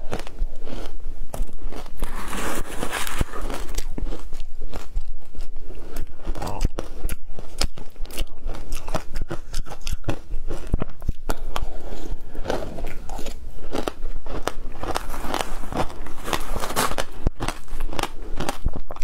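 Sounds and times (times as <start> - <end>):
ice crunching while chewed: 0.0 - 19.0.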